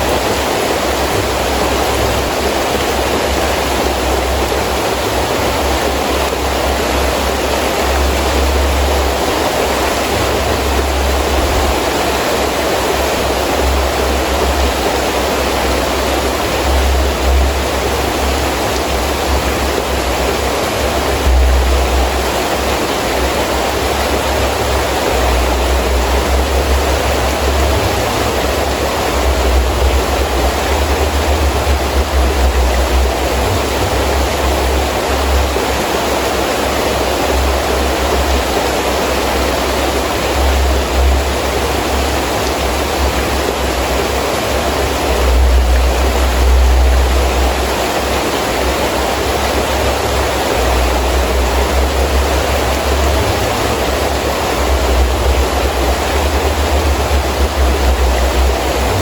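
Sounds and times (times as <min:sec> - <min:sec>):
deep wind rumble: 0:00.0 - 0:59.0
heavy rain falling: 0:00.0 - 0:59.0.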